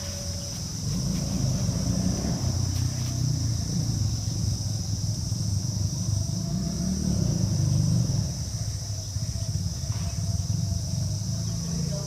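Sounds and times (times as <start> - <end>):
high insect drone: 0.0 - 12.0
vehicle engine rumbling: 0.0 - 12.0.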